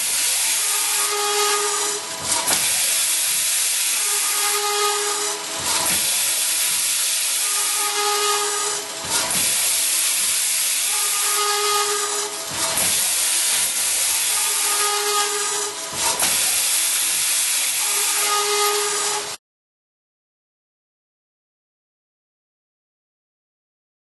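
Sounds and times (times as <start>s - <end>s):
circular saw cutting metal tube: 0.0s - 19.4s.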